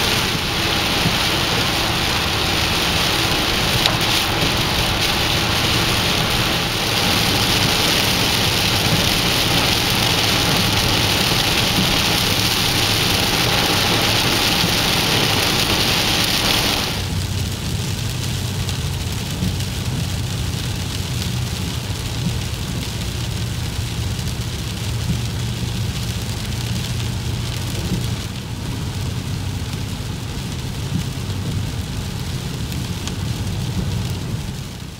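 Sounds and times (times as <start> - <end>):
heavy rain hissing: 0.0 - 34.9
low vehicle hum: 0.0 - 34.9.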